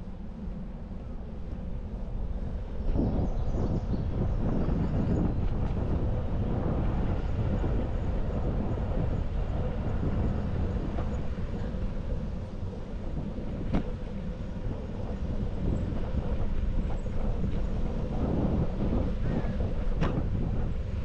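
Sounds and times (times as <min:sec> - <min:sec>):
bicycle tyres rumbling on asphalt: 0:00.1 - 0:21.0.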